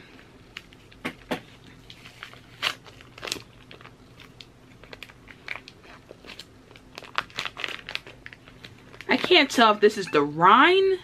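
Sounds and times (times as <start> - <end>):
paper wrapper crinkling: 0.5 - 9.8.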